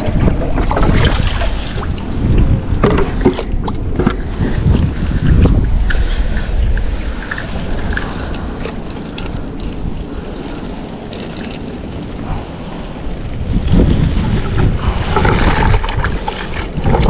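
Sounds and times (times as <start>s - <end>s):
water washing against rocks: 0.0s - 5.9s, 7.3s - 17.0s
wind buffeting microphone: 0.0s - 17.0s.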